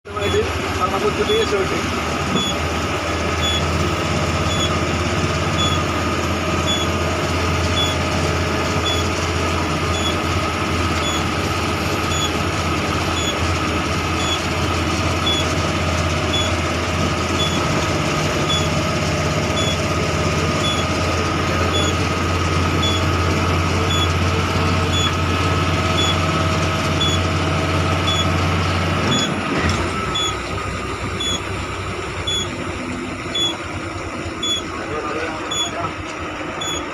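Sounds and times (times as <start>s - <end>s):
vehicle engine humming: 0.1s - 36.9s.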